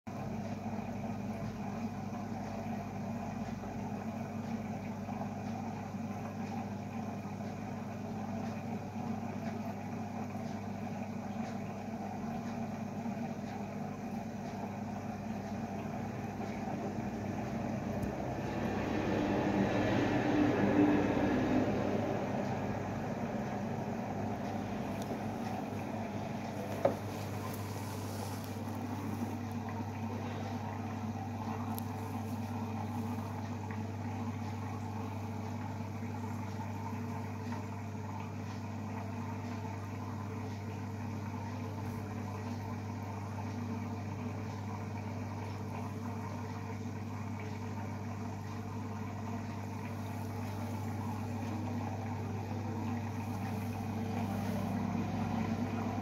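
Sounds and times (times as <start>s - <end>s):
aquarium pump humming: 0.1s - 56.0s.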